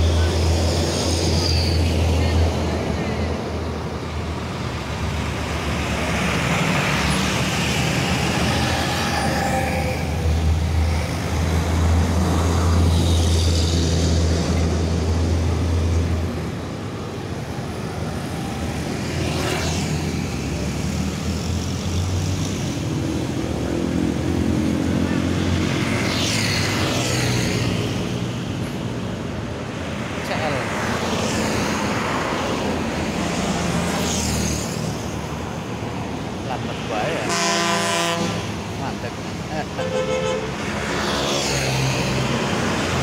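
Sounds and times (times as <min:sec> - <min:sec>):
vehicles driving past: 0:00.0 - 0:43.0.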